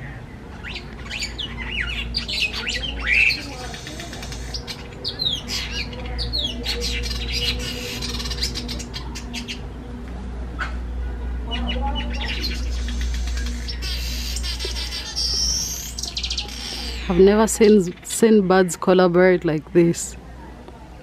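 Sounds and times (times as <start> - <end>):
steady low hum: 0.0 - 20.6
birds chirping: 0.0 - 21.0.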